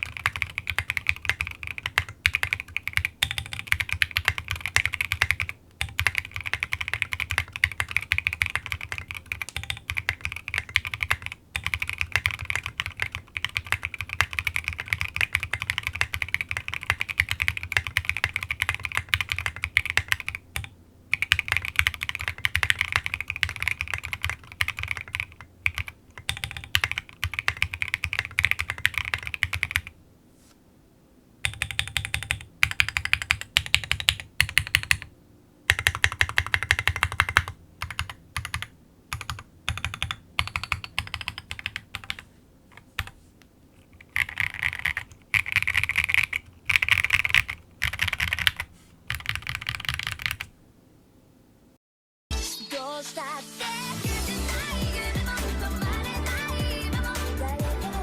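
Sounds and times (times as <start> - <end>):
fast typing on mechanical keyboard: 0.0 - 30.0, 31.4 - 35.1, 35.7 - 43.2, 43.8 - 50.5.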